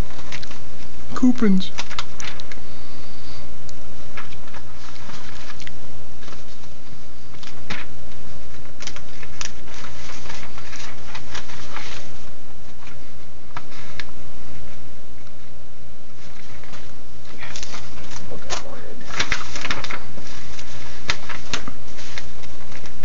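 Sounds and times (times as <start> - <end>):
newspaper pages rustling: 0.0 - 1.0, 1.7 - 23.0
low hum: 0.0 - 23.0.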